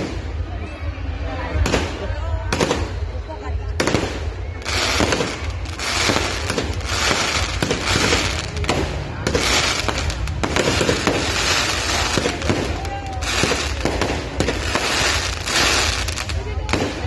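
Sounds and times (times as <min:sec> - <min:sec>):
fireworks bangs and crackling: 0:00.0 - 0:00.6, 0:01.4 - 0:17.0.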